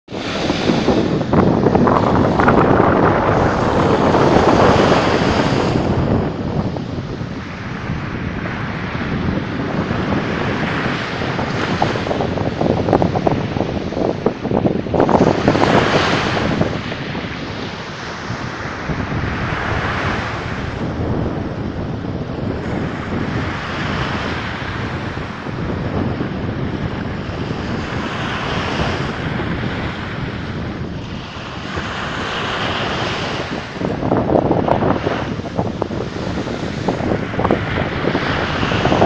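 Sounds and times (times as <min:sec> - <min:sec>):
wind rumbling on microphone: 0:00.0 - 0:39.0
sea waves washing in: 0:00.1 - 0:39.0.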